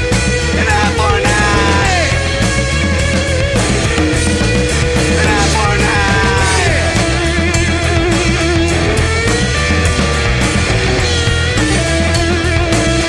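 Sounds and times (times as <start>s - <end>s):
loud rock band music: 0.0s - 13.0s.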